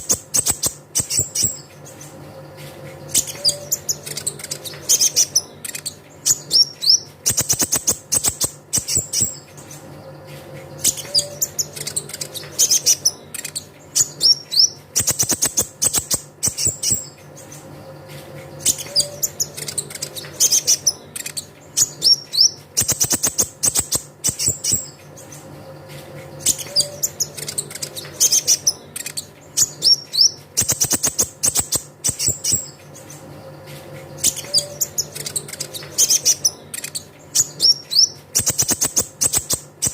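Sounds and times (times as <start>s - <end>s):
sunbird song trills and chirps: 0.0s - 39.9s.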